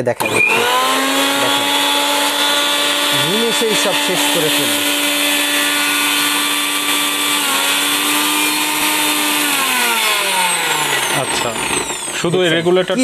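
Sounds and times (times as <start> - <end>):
mixer grinder motor whine: 0.0 - 13.0.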